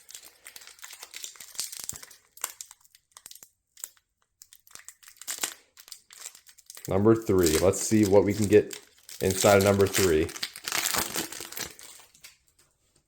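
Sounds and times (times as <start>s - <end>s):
foil wrapper crinkling: 0.0s - 12.8s.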